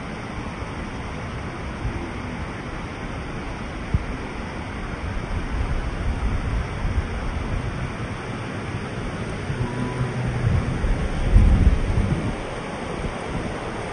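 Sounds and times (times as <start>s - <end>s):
water rushing over dam: 0.0s - 13.9s.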